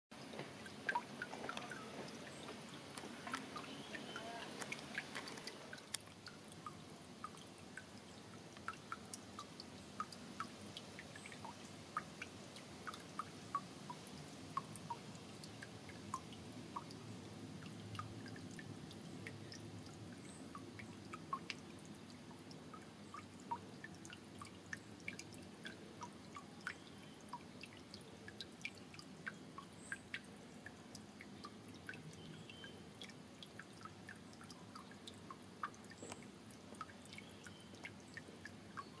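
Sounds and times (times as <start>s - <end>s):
water dripping into a pool: 0.1s - 39.0s.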